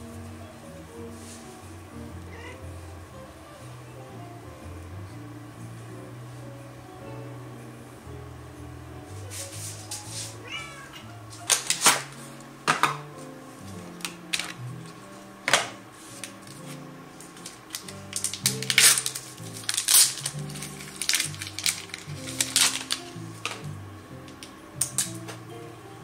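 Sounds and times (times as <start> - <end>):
background music of held low notes: 0.0 - 26.0.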